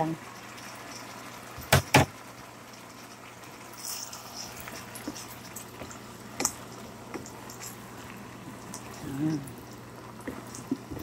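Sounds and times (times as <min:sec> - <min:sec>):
food simmering in a pan: 0:00.0 - 0:11.0
low steady hum: 0:00.0 - 0:11.0.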